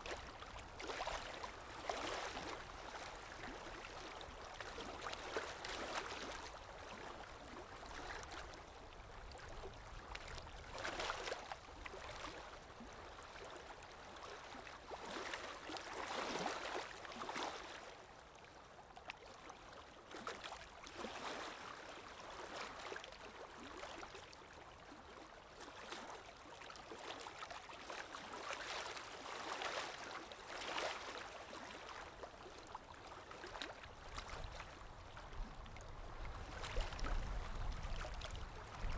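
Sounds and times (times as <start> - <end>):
stream flowing and gurgling: 0.0 - 38.9.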